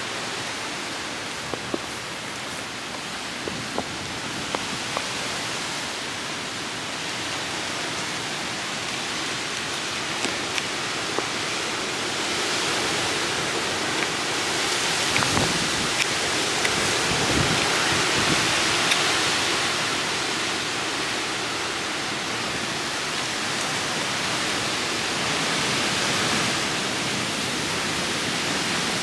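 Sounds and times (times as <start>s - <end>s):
rain: 0.0s - 29.0s.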